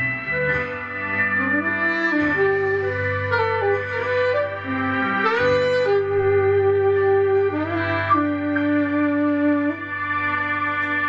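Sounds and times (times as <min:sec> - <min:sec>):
low backing tone: 0:00.0 - 0:11.0
saxophone slow melody: 0:00.0 - 0:11.0.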